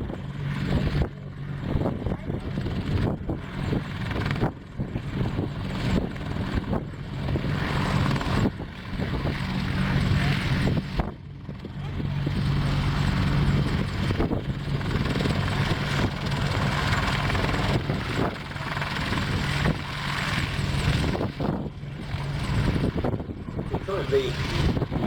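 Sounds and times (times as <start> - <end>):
helicopter rotor and turbine: 0.0 - 25.0.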